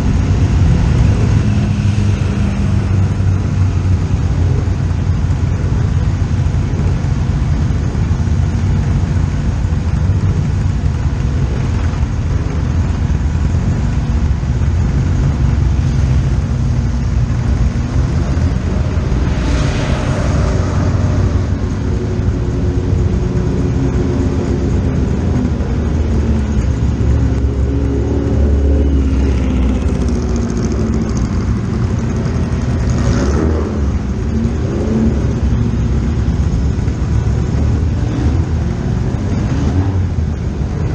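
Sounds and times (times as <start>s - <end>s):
racing car engines rumbling: 0.0s - 40.9s.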